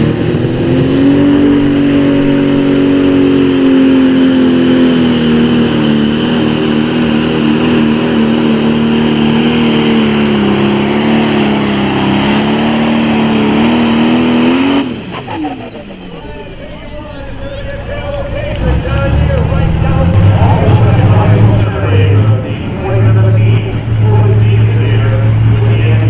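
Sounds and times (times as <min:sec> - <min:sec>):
diesel tractor engine under load: 0:00.0 - 0:26.0.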